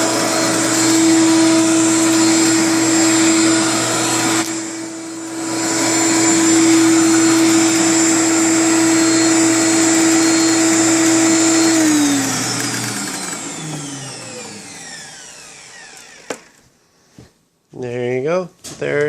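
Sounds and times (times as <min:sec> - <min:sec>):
vacuum cleaner running: 0:00.0 - 0:16.8.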